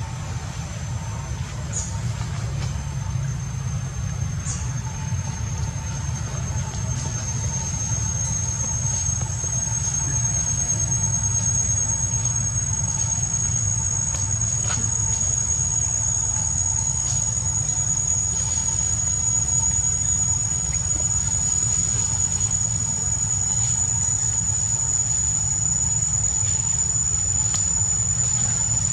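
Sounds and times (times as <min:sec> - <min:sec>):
high-pitched insect drone: 0:00.0 - 0:28.9
low rumble: 0:00.0 - 0:28.9.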